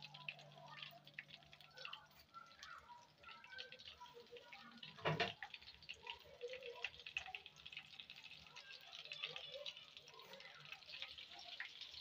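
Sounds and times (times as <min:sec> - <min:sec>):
oil crackling in a pan: 0:00.0 - 0:12.0.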